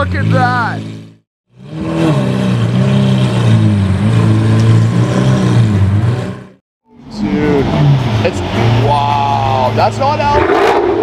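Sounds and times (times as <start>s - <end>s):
car engine at low revs: 0.0s - 10.4s.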